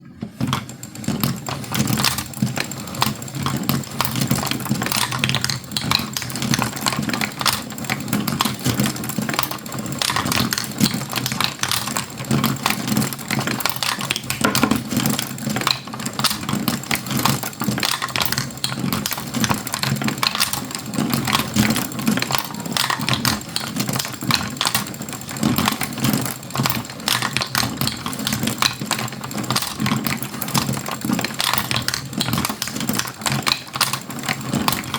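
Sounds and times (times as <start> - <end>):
marbles rolling and clicking: 0.4 - 34.9.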